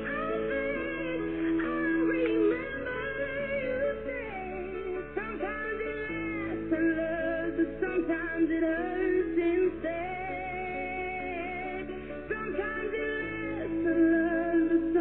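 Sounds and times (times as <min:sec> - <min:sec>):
song with singing over guitar: 0:00.0 - 0:15.0.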